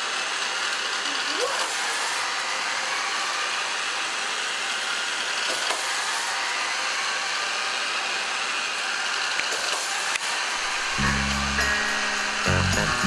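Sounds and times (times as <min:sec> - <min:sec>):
steady whirring hiss: 0:00.0 - 0:13.0.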